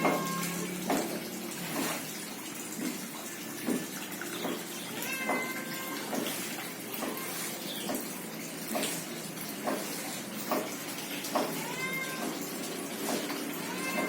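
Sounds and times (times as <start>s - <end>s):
sharp water drip: 0.0s - 14.0s
water trickling into pond: 0.0s - 14.0s.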